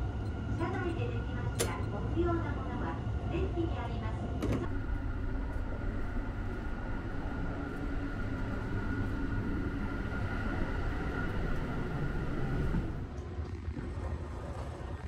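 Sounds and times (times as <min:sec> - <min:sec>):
train running rumble: 0:00.0 - 0:13.4.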